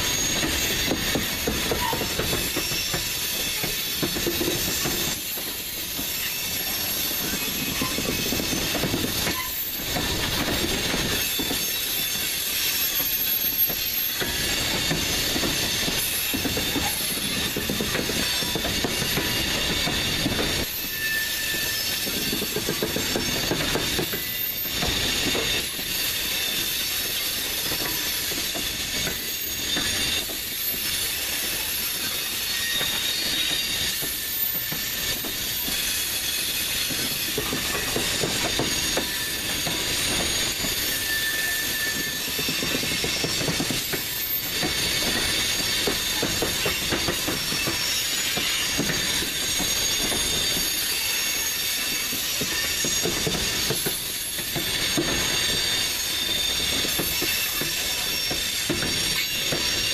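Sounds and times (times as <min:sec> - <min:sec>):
high wheel squeals: 0:00.0 - 0:59.9
train wheels clattering over crossing: 0:00.0 - 0:59.9.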